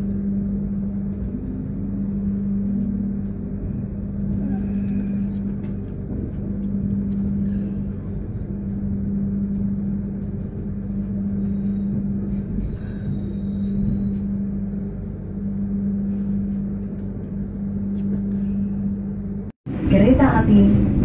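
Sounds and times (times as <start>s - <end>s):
train interior hum: 0.0s - 21.0s
train ride rumble: 0.0s - 21.0s.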